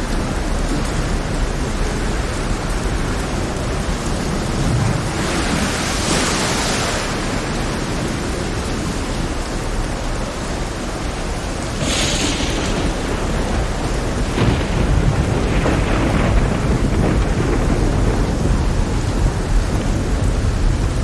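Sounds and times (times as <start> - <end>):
heavy rain: 0.0 - 21.0
surf and surging waves: 0.0 - 21.0.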